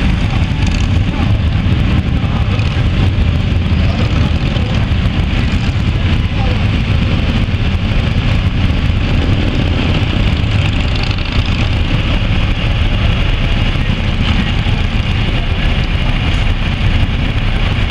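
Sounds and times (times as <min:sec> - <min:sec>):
motorcycles engine rumble: 0:00.0 - 0:17.9.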